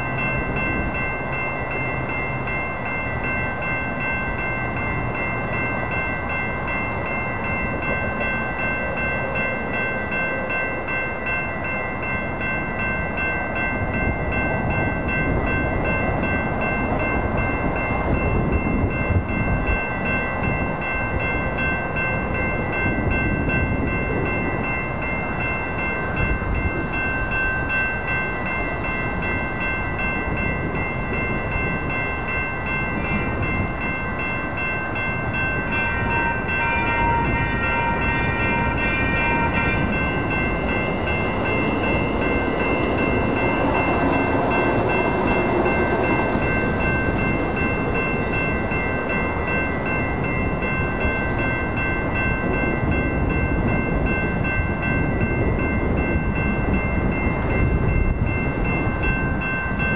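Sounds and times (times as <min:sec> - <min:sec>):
railroad crossing bells ringing: 0:00.0 - 0:59.9
train rumble approaching: 0:00.0 - 0:59.9.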